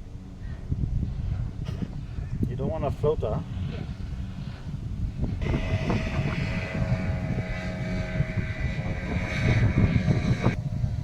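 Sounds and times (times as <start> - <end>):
engine droning with whine: 0.0 - 11.0.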